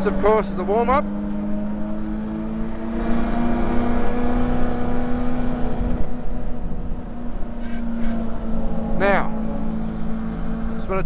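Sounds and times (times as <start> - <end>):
car engine running inside car: 0.0 - 11.0.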